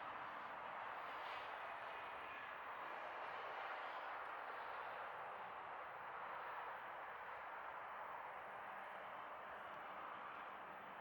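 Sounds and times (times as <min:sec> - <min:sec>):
faint jet engine noise: 0:00.0 - 0:11.0.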